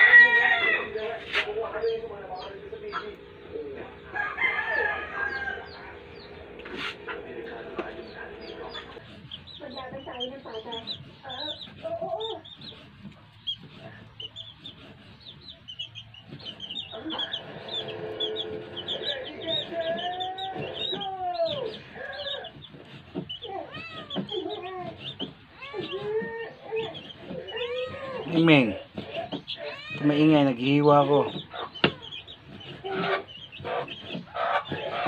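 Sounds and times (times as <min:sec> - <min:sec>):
chickens clucking: 0:00.0 - 0:35.0
chicks peeping: 0:00.0 - 0:35.0.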